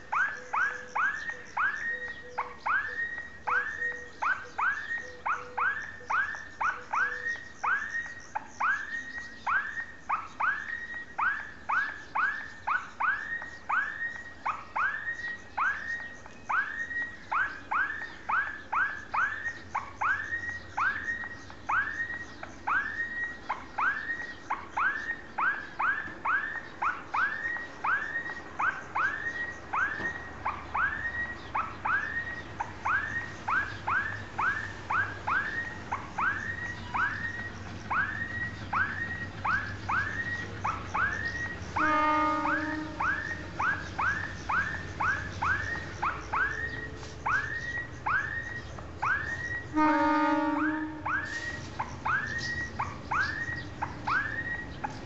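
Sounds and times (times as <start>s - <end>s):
level crossing warning alarm: 0.0s - 55.0s.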